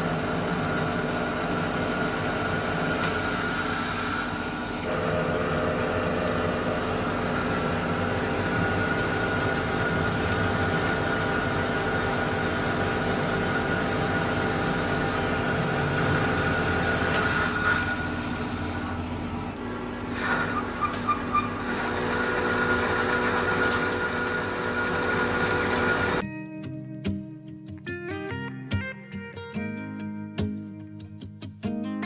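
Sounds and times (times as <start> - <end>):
lathe drone with gear whine: 0.0 - 26.2.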